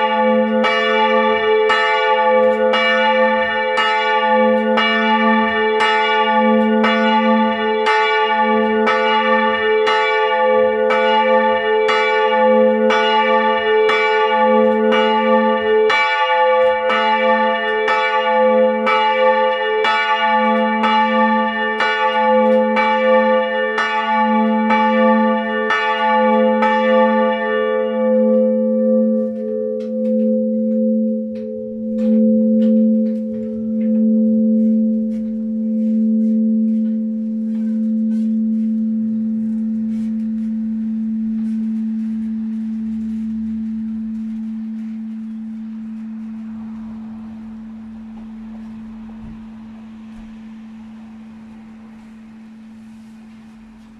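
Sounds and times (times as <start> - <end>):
church bells ringing: 0.0 - 53.9
deep hum of bells: 0.0 - 53.9.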